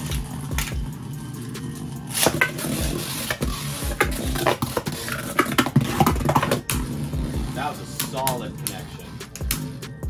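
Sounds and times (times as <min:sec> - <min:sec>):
spinning tops whirring: 0:00.0 - 0:10.0.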